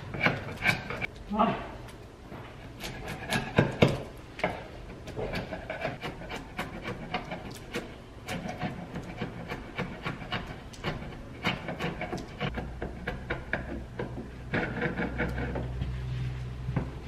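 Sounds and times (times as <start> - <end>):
chisel scraping paint off wood: 0.0 - 1.1, 2.5 - 17.0.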